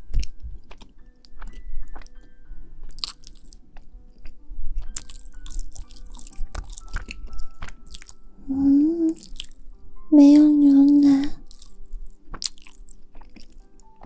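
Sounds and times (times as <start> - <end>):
chewing crunchy food: 0.0 - 2.2, 2.8 - 8.2, 9.1 - 9.6, 10.3 - 14.0.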